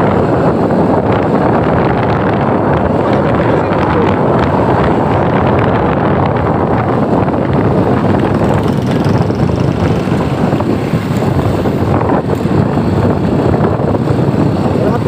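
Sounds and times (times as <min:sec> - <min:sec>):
vehicle driving on rough road: 0:00.0 - 0:15.0
wind buffeting microphone: 0:00.0 - 0:15.0.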